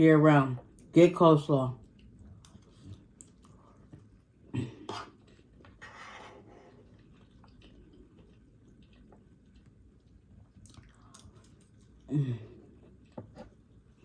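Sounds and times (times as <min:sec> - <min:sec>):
person chewing: 0:01.8 - 0:14.0.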